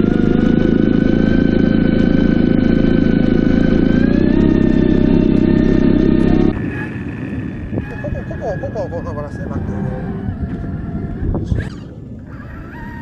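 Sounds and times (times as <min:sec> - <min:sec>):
motor drone with whine: 0:00.0 - 0:13.0.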